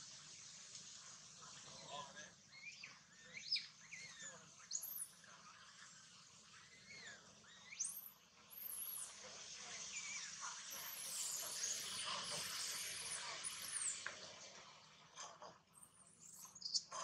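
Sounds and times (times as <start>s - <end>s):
outdoor hiss: 0.0s - 15.2s.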